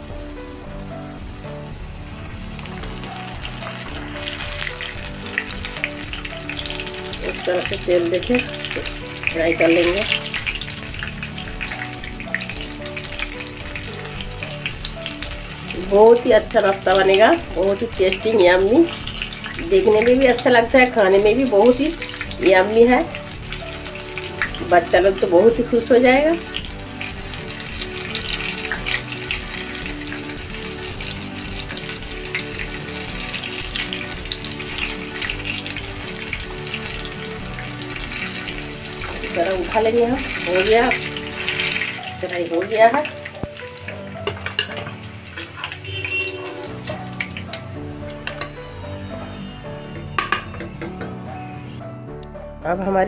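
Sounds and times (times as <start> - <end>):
donuts sizzling in hot oil: 0.0 - 51.0
background music: 0.0 - 53.0.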